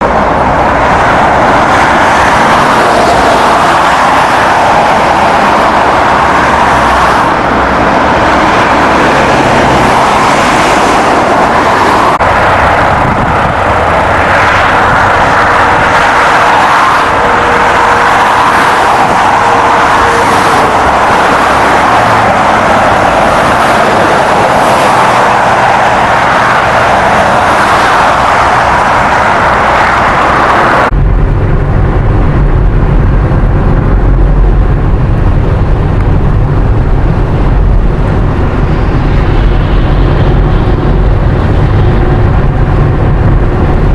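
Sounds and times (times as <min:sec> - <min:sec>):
road and wind noise: 0:00.0 - 0:43.9.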